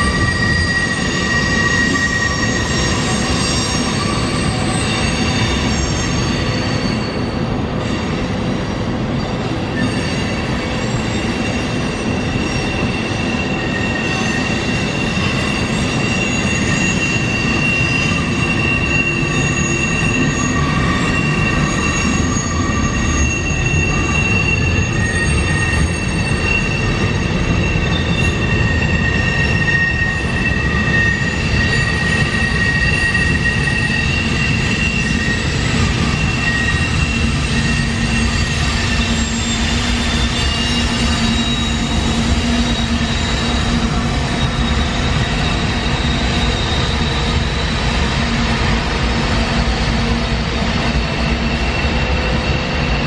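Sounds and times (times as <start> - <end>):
train cars rolling: 0.0 - 53.0
wheel squeal: 0.0 - 53.0.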